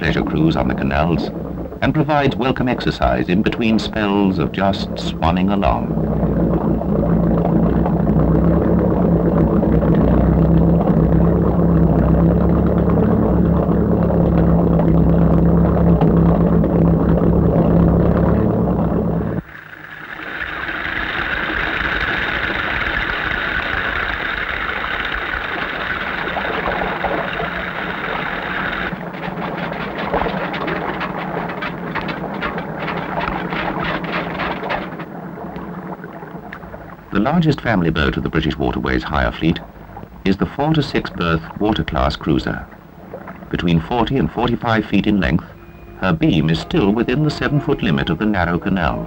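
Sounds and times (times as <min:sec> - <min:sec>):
boat engine rumbling: 0:00.0 - 0:49.0
rapid irregular clicks: 0:00.0 - 0:49.0.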